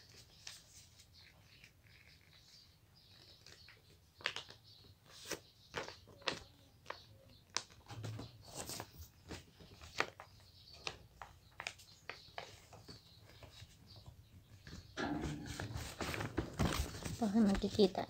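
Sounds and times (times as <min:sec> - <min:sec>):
paper crackling and rustling: 0:00.0 - 0:18.0.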